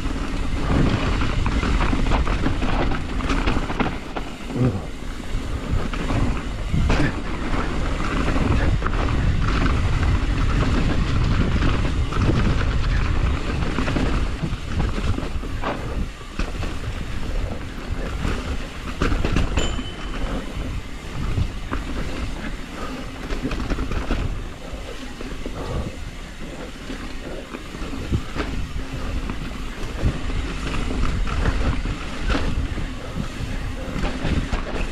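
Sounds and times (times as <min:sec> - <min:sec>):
bike knocking and rattling: 0:00.0 - 0:34.9.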